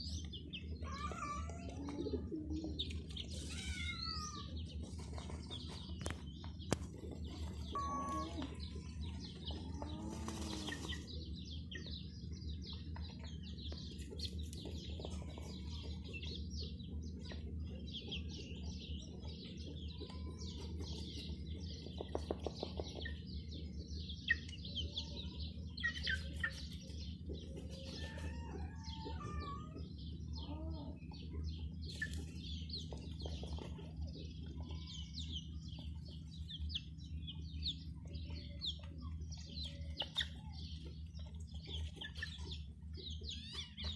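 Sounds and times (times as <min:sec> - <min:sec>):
hen clucking: 0:00.0 - 0:11.9, 0:12.9 - 0:43.9
baby chicks peeping: 0:00.0 - 0:43.9
steady low hum: 0:00.0 - 0:43.9.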